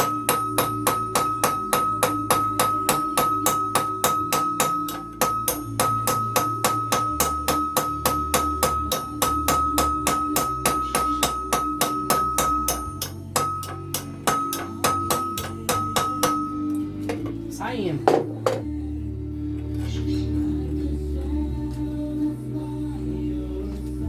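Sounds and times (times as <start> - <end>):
background music with steady beat: 0.0 - 24.0.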